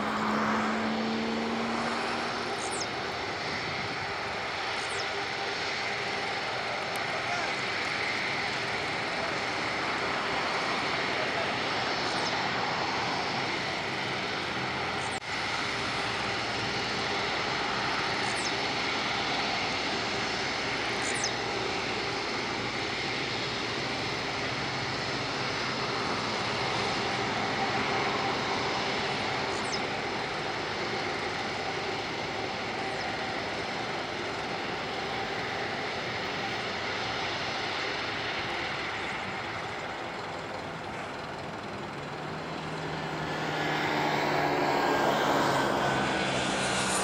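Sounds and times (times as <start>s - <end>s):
jet engines at taxi thrust: 0.0s - 47.0s.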